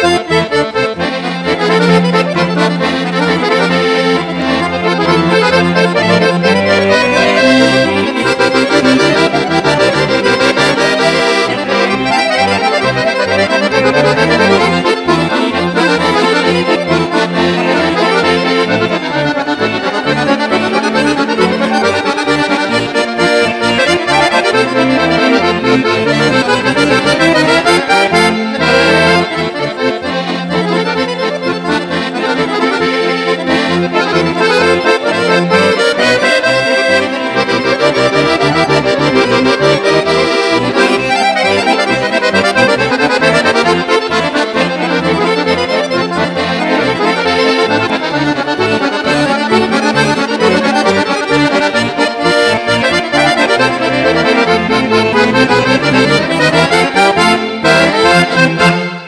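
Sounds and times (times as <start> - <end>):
button accordions playing: 0.0 - 59.0
string quartet: 0.0 - 59.0.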